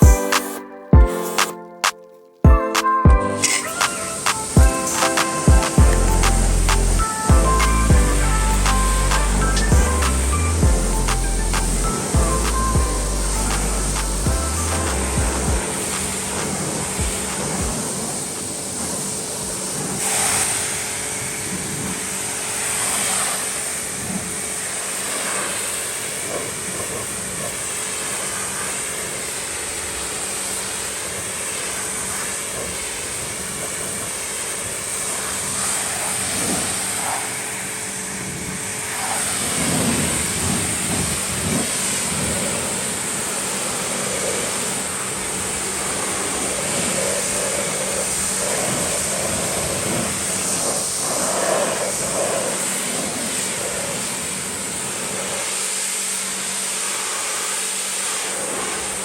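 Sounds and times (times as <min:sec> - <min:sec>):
pressure washer spray hissing: 0:00.0 - 0:01.6, 0:03.4 - 0:59.0.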